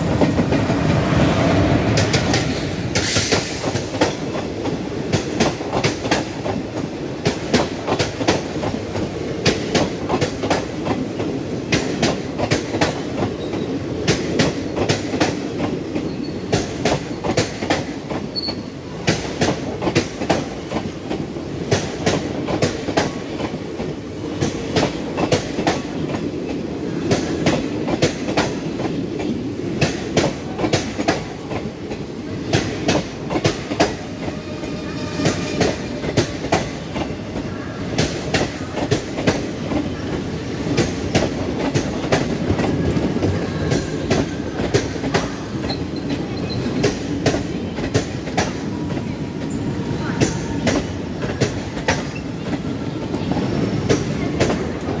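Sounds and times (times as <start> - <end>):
train rolling rumble: 0.0 - 55.0.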